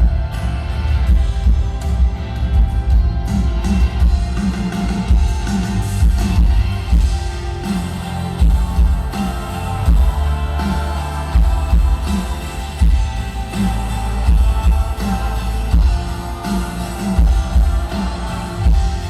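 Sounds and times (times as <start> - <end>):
bass guitar: 0.0 - 19.0
electric guitar: 0.0 - 19.0
steady drum beat: 0.0 - 19.0.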